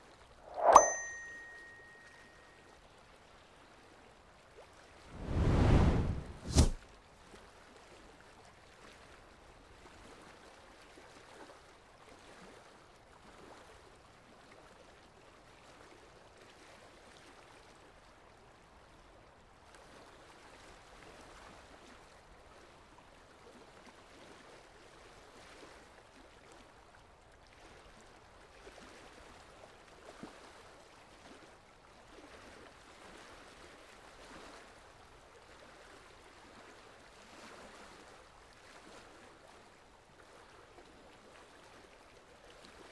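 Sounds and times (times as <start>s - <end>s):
faint flowing water: 0.0s - 42.9s.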